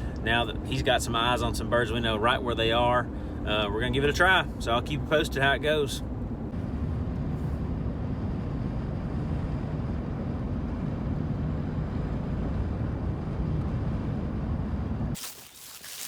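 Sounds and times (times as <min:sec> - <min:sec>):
road and engine drone in a vehicle: 0:00.0 - 0:16.0.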